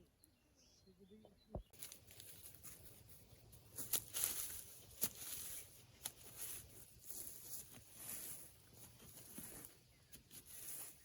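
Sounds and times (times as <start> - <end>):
dry rustling and crunching: 1.8 - 11.0.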